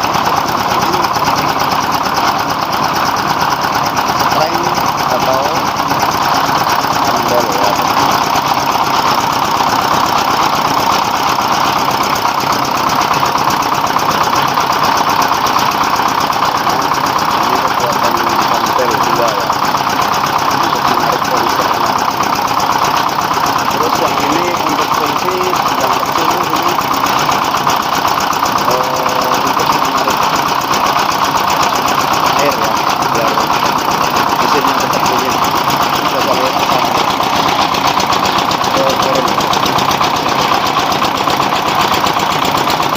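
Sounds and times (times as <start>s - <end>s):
diesel mill machinery running: 0.0s - 42.9s.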